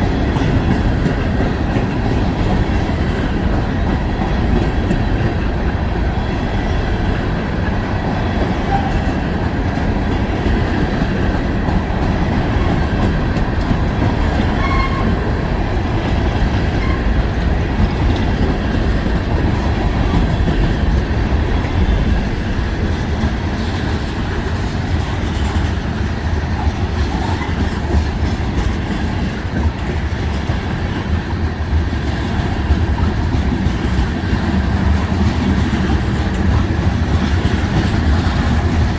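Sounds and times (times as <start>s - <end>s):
steel wheels rumbling on rail: 0.0s - 38.9s.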